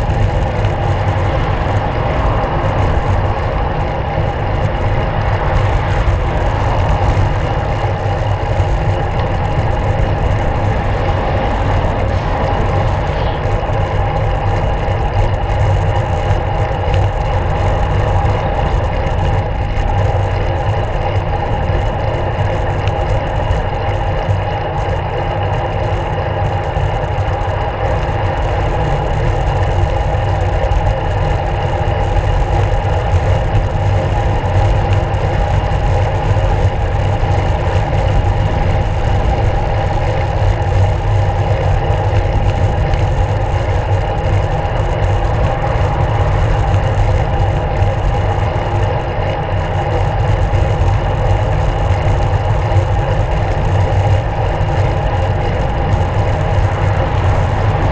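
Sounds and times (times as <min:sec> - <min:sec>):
bicycle road noise: 0:00.0 - 0:57.9
wind rumble: 0:00.0 - 0:57.9.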